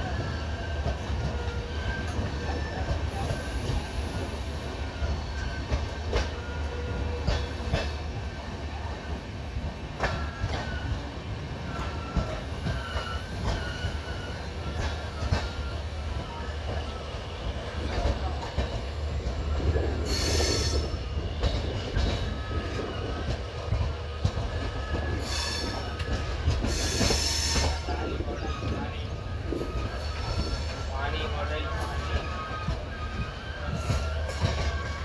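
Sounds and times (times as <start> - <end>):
train rumbling on track: 0.0 - 35.0.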